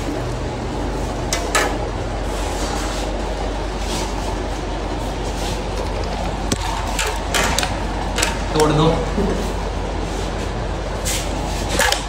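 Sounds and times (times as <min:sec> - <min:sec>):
electric fans whirring: 0:00.0 - 0:12.0.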